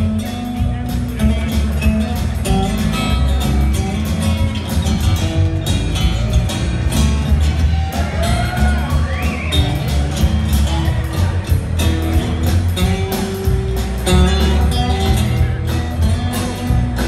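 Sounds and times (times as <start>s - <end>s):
drums: 0.0s - 17.0s
strummed acoustic guitar: 0.0s - 17.0s
walking upright bass: 0.0s - 17.0s.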